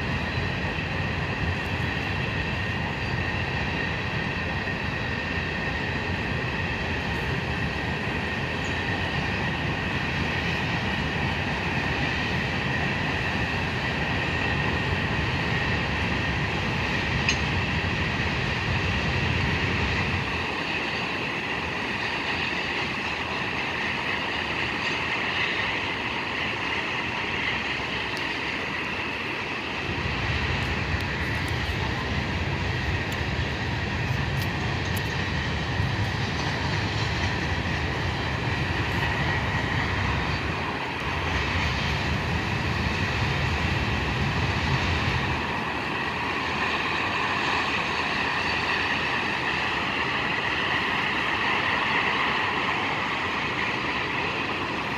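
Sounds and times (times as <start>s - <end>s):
train rumbling past: 0.0s - 54.9s.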